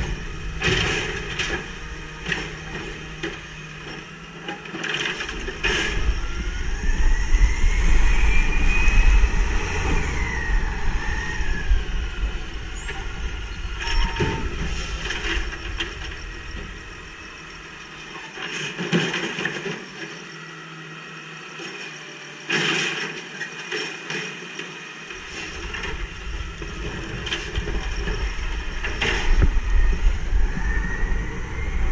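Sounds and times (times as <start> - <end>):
truck engine revving with whine: 0.0 - 22.6, 24.8 - 31.9.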